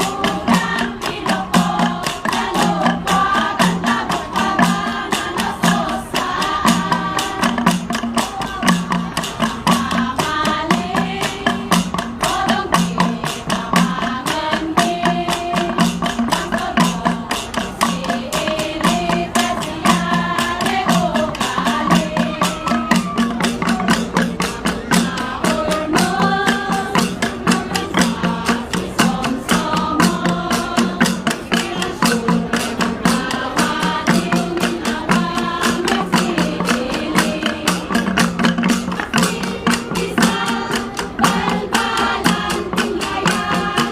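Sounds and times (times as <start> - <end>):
group of voices singing: 0.0 - 43.9.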